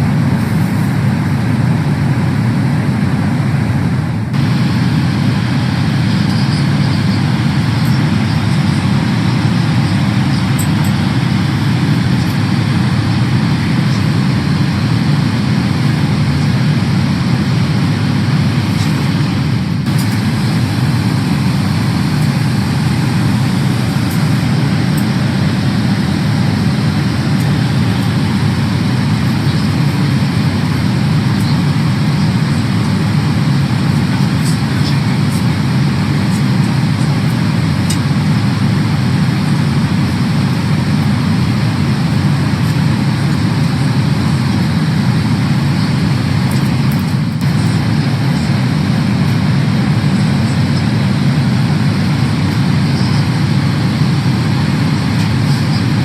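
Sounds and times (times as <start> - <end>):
airliner cabin airflow and engine: 0.0 - 56.0.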